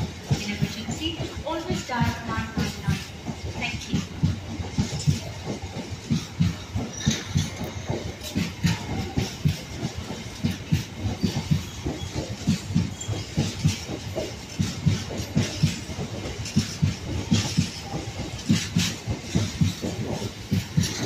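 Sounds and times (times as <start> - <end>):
freight train wheels clattering: 0.0 - 21.0.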